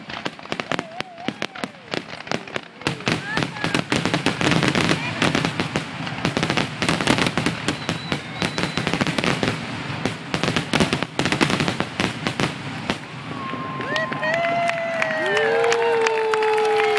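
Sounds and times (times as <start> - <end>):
fireworks bursting and crackling: 0.0 - 16.9.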